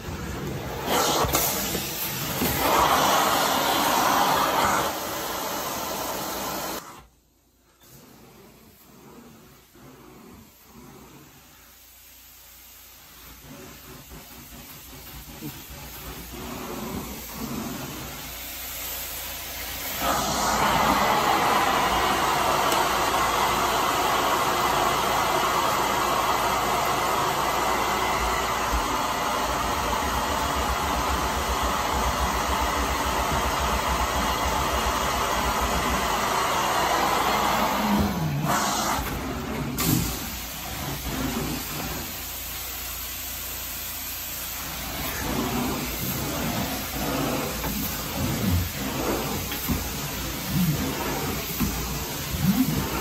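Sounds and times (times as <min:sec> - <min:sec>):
vacuum machine rushing hiss: 0:00.0 - 0:53.0.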